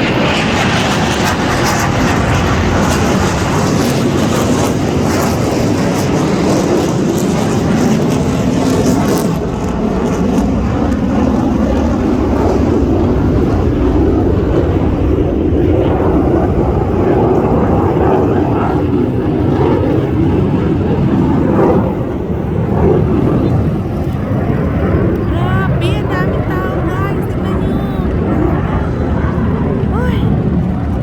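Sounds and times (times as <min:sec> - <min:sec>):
aircraft flying past: 0:00.0 - 0:31.0.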